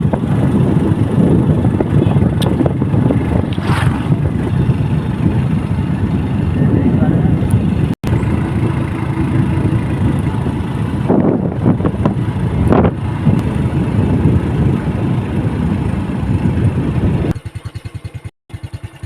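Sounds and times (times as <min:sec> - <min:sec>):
motorbike engine rumble: 0:00.0 - 0:19.0
road noise: 0:00.0 - 0:19.0.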